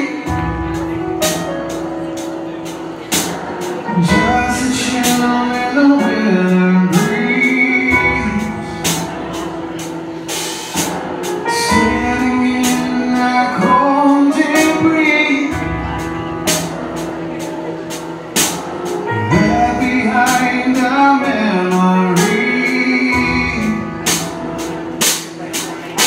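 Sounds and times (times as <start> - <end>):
man singing lead vocal: 0.0 - 1.4, 3.1 - 10.3, 11.3 - 16.8, 19.0 - 25.9
bass guitar: 0.0 - 26.0.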